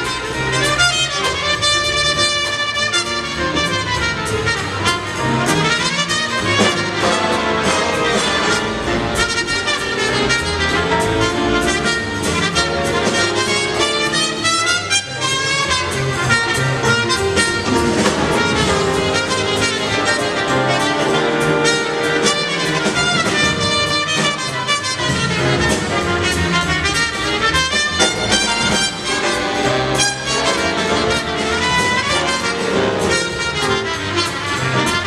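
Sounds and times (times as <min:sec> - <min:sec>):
brass section playing jazz: 0:00.0 - 0:35.0
drum kit beat with cymbals: 0:00.0 - 0:35.0.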